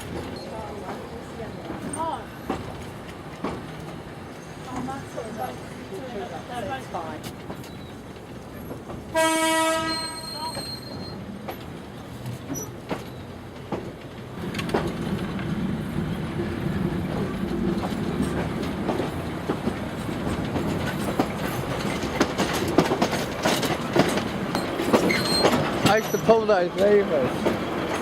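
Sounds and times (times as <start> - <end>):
train wheels clacking on rail joints: 0.0 - 5.6, 7.0 - 28.0
train carriage rumbling: 0.0 - 28.0.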